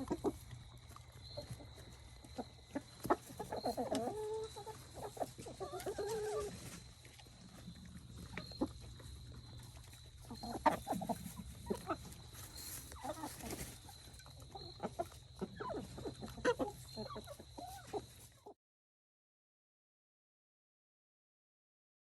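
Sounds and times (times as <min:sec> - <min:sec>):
chickens clucking: 0:00.0 - 0:18.6.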